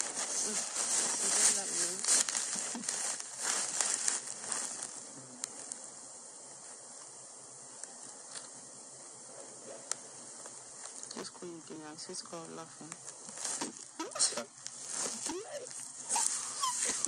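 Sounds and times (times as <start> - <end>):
rustling: 0.0 - 5.9, 6.5 - 17.0
steady hiss: 0.0 - 17.0.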